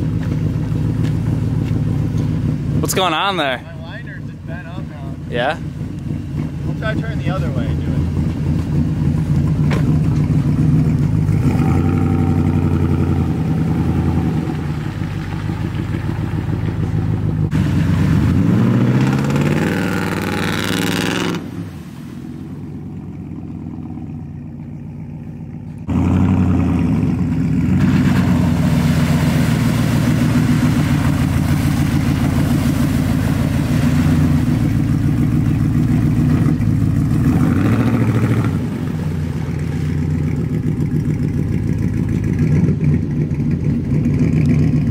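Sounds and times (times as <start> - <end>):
truck driving through water: 0.0 - 44.9
truck engine revving: 0.0 - 44.9.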